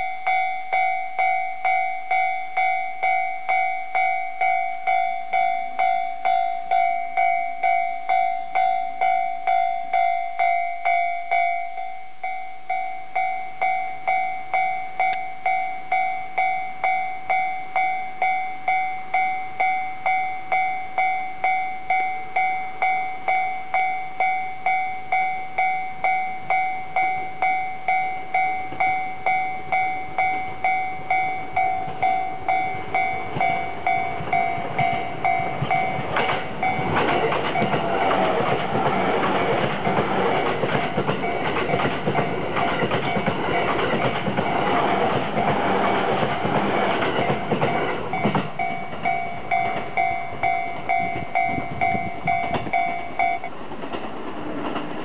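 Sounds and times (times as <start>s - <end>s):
level crossing warning bell ringing: 0.0s - 53.5s
electric train approaching: 0.0s - 55.0s.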